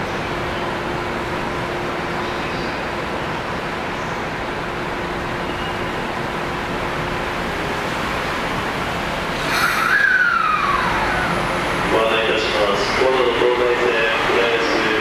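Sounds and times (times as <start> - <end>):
faint hum: 0.0 - 15.0
train rushing rumble: 0.0 - 15.0.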